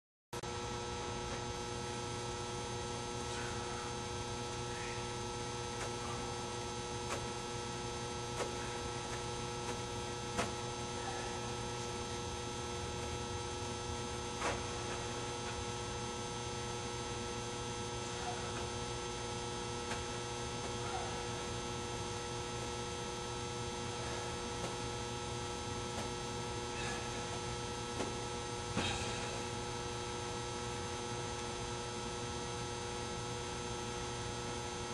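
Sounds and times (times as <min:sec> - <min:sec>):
electrical hum: 0:00.4 - 0:34.9.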